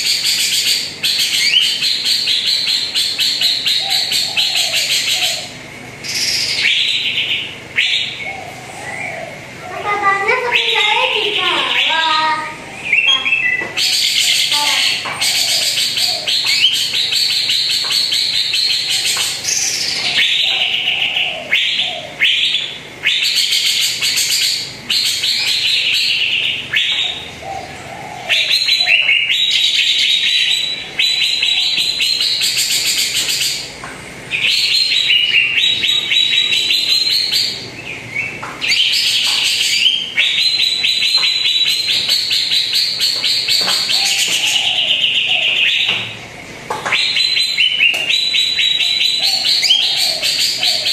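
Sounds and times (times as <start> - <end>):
bird singing trilled phrases: 0.0 - 46.2, 46.8 - 50.9.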